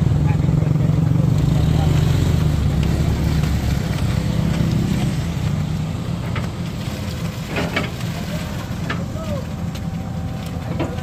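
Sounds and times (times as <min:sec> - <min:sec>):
large vehicle engine droning: 0:00.0 - 0:11.0.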